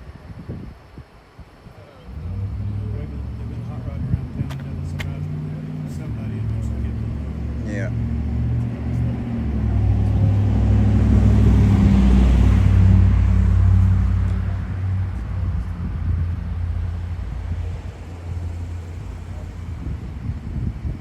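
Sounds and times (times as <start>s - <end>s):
road noise: 0.0s - 21.0s
vehicle engine rumble: 0.0s - 21.0s.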